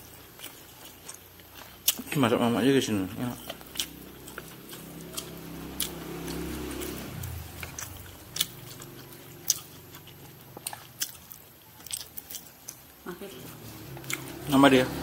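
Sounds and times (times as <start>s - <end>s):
man chewing noodles: 0.0s - 2.5s, 3.1s - 14.5s.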